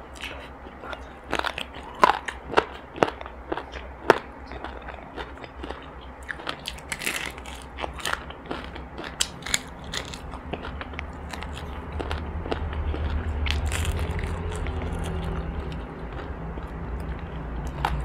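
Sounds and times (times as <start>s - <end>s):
low steady hum: 0.0s - 18.0s
crunchy chewing: 0.1s - 18.0s.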